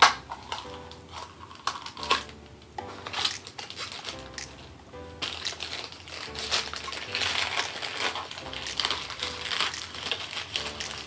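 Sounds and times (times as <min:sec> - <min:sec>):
light background music: 0:00.0 - 0:11.0
paper wrapping crinkling: 0:00.0 - 0:11.0.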